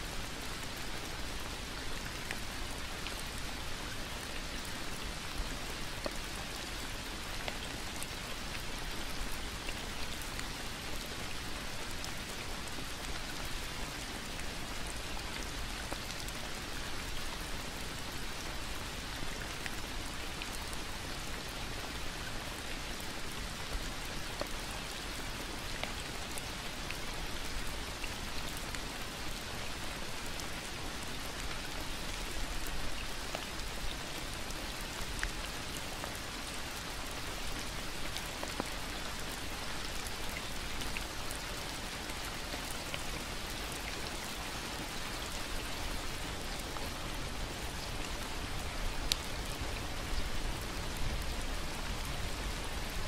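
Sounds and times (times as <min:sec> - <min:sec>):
rain falling on foliage: 0:00.0 - 0:53.0.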